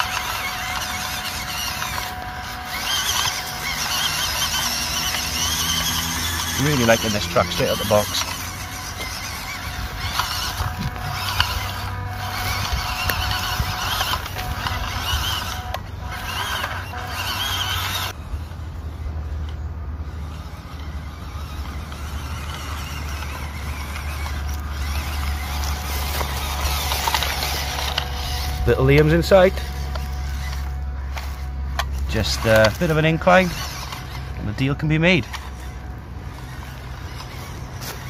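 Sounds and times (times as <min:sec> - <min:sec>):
toy truck motor whining: 0:00.0 - 0:38.0.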